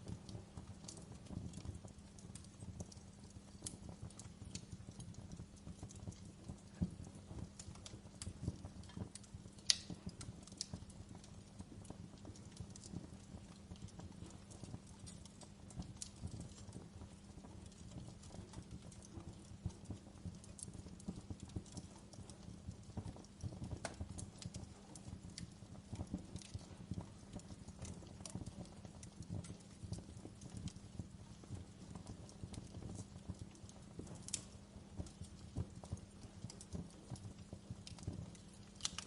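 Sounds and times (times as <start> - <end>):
low background noise: 0.0 - 39.0
wood fire crackling and popping: 0.0 - 39.0.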